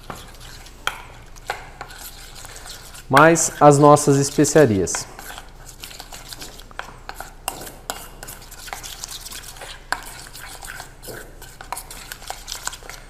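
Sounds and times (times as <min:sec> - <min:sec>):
utensil scraping metal bowl: 0:00.0 - 0:13.0.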